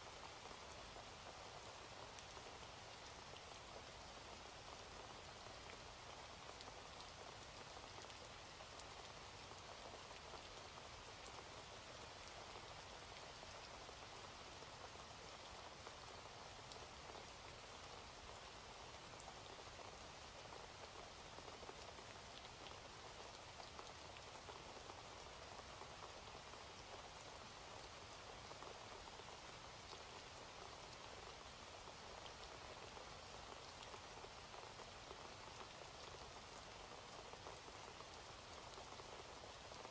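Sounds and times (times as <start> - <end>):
faint steady rain: 0.0 - 39.9.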